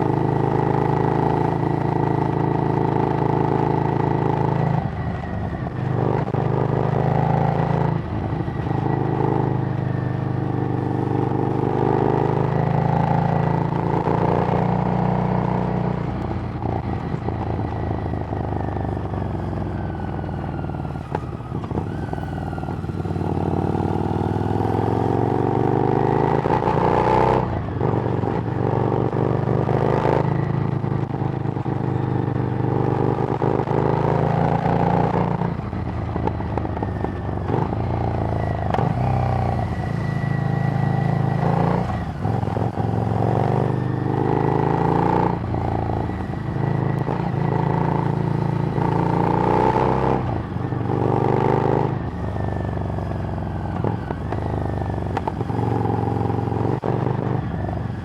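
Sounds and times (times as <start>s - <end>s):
motorcycle engine riding: 0.0s - 58.0s.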